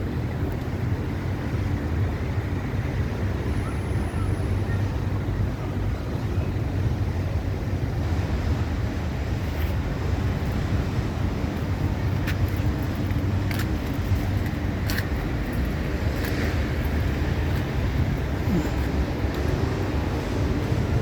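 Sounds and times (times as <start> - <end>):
wind blowing with low rumble: 0.0 - 21.0.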